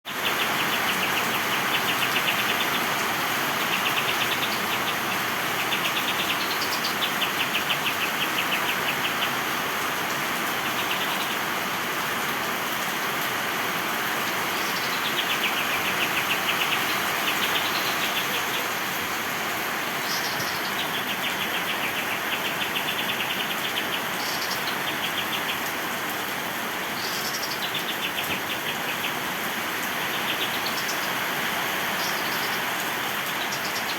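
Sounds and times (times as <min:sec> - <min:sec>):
songbirds chattering trills: 0:00.1 - 0:11.6, 0:14.0 - 0:33.9
heavy rain hiss: 0:00.1 - 0:33.9.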